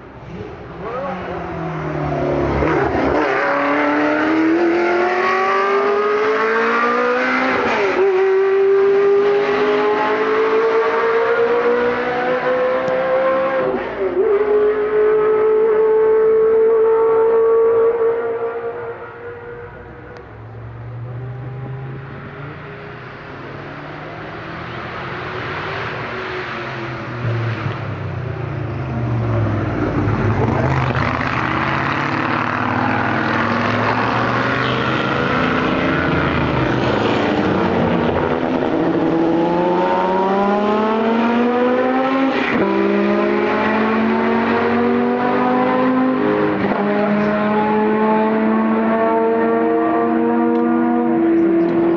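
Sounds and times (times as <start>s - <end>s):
racing car engines at full throttle: 0.0s - 51.9s.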